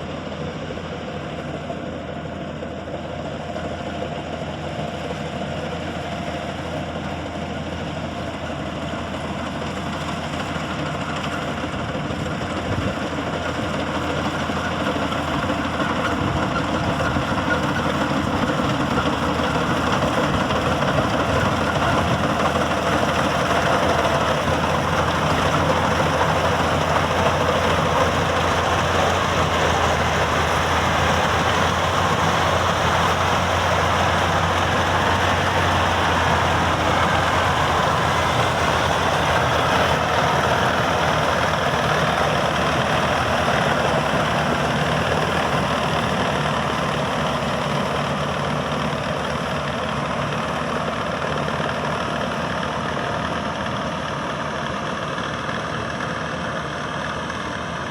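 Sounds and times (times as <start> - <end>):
harvester machinery drone: 0.0 - 57.9.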